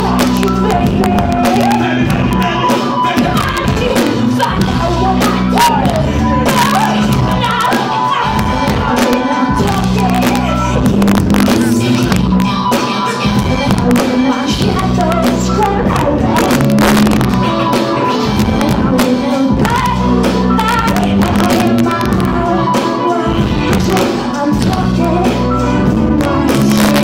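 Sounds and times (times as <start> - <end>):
drums: 0.0 - 27.0
person singing: 0.0 - 27.0
steady bass line: 0.0 - 27.0.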